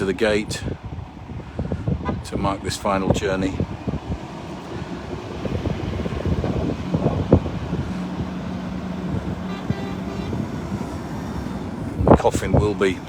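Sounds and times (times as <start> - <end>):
lorry diesel engines running: 0.0 - 13.0.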